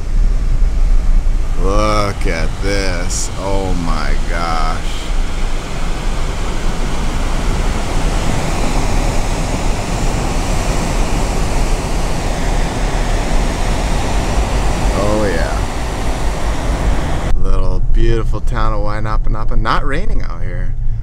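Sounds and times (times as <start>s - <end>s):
waterfall roaring: 0.0s - 17.3s.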